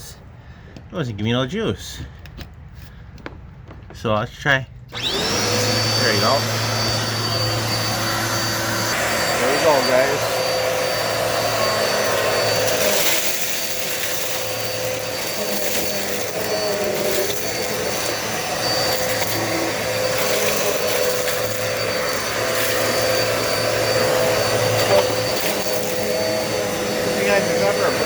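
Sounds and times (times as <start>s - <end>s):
vacuum cleaner running: 4.9s - 28.0s.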